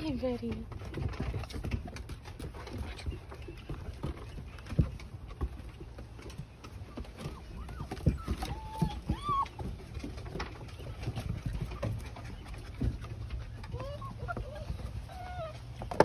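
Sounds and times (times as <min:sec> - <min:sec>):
puppy paws pattering on wooden deck: 0:00.0 - 0:16.0.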